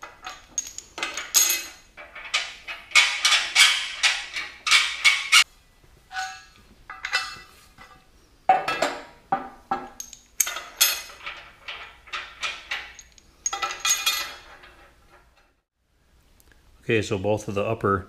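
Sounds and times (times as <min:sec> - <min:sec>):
steel bolts clanking on metal: 0:00.0 - 0:05.4, 0:06.1 - 0:15.5.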